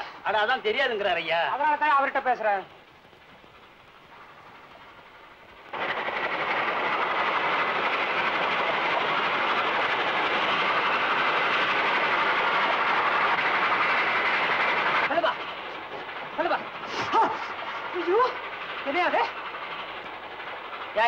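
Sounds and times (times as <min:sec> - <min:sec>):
train carriages rattling: 0:00.0 - 0:21.0.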